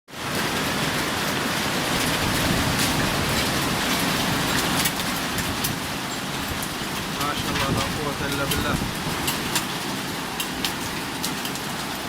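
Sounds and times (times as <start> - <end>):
heavy rain on hard surfaces: 0.1 - 12.0
raindrop hits: 0.4 - 12.0.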